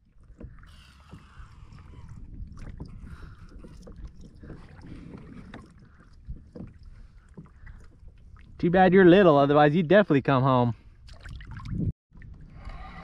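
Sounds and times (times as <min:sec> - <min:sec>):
water lapping at kayak hull: 0:00.0 - 0:09.7, 0:10.8 - 0:13.0
wind buffeting microphone: 0:00.1 - 0:09.0, 0:10.8 - 0:13.0.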